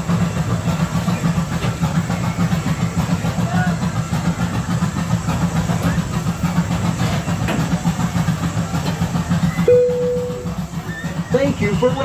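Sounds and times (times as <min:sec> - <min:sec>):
ride train rumbling on track: 0:00.0 - 0:12.0.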